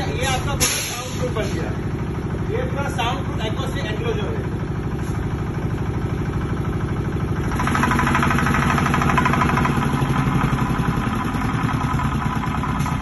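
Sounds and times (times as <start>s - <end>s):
diesel generator running: 0.0s - 13.0s.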